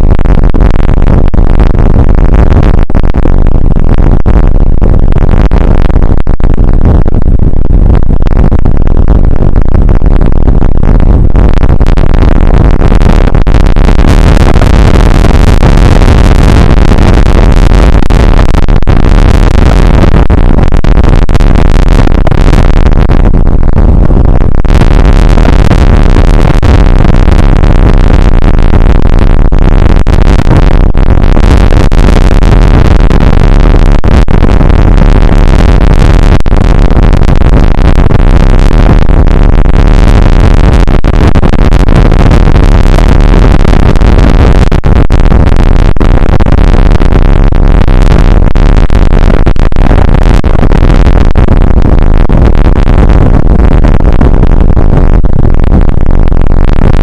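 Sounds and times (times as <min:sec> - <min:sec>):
distorted rain and wind noise: 0:00.0 - 0:57.0.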